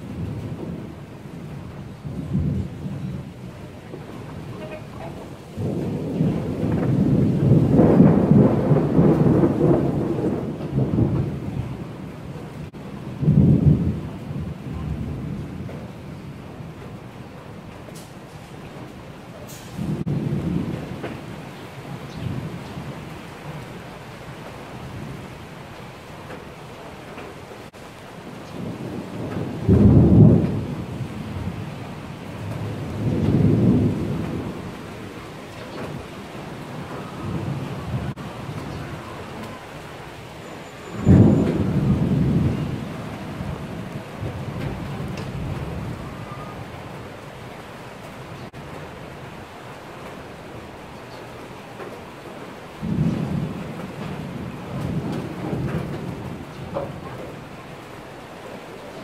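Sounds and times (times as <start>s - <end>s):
steady rain: 0.0s - 59.0s
thunder rumbling: 0.0s - 59.0s.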